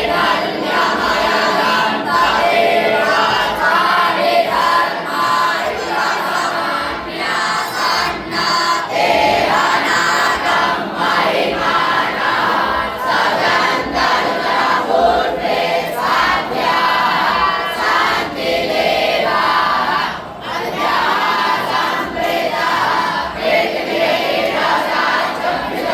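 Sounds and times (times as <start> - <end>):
crowd chanting: 0.0 - 25.9.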